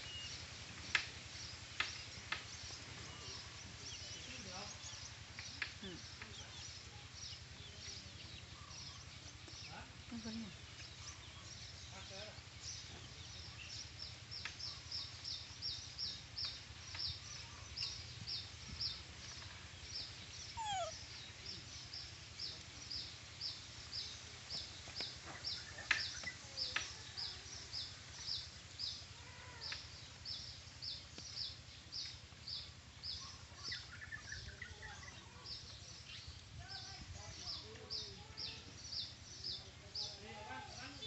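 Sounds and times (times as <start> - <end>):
bird chirping: 1.4 - 41.0.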